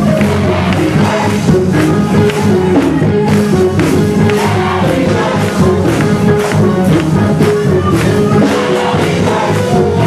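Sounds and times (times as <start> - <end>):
gospel choir singing: 0.0 - 10.0
instrumental backing: 0.0 - 10.0.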